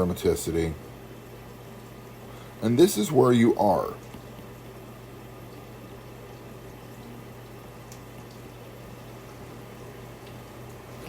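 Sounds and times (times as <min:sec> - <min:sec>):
low electrical hum: 0:00.0 - 0:11.0
steady background hiss: 0:00.0 - 0:11.0.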